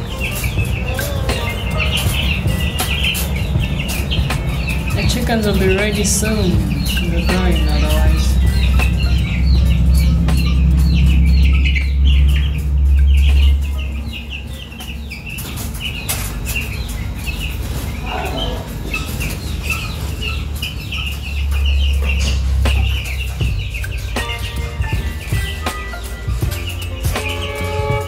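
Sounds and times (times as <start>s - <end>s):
low rumble: 0.0s - 15.8s, 16.4s - 25.6s
chicks peeping: 0.0s - 28.0s.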